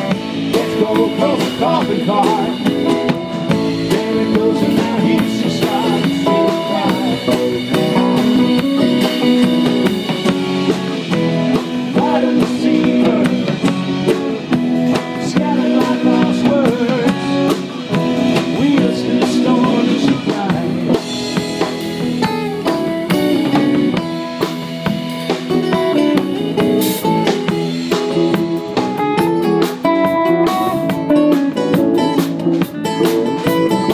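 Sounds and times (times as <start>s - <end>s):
acoustic guitar: 0.0s - 33.9s
bass guitar: 0.0s - 33.9s
drum kit steady beat: 0.0s - 33.9s
electric guitar: 0.0s - 33.9s.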